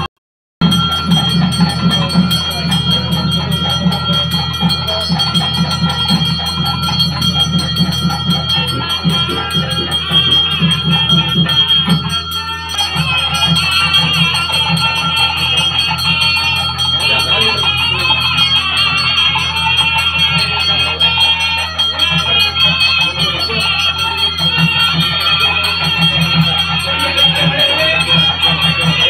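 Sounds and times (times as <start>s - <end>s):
fast drumming: 0.0s - 29.0s
wavering high wind melody: 0.6s - 29.0s
held drone: 0.7s - 29.0s.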